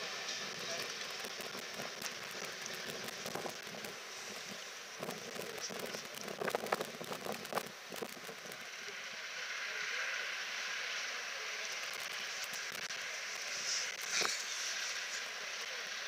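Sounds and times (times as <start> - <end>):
train wheels hissing on rails: 0.0 - 5.9, 8.7 - 16.0.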